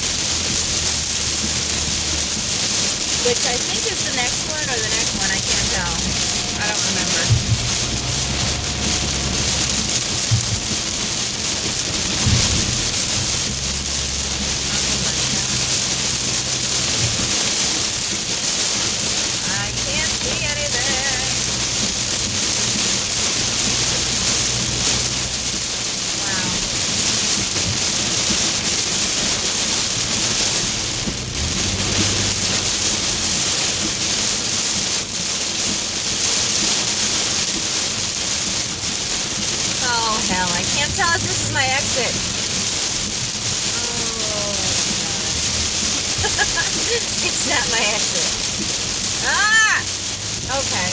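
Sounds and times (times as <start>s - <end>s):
heavy rain on car: 0.0s - 50.9s
low road rumble: 0.0s - 50.9s.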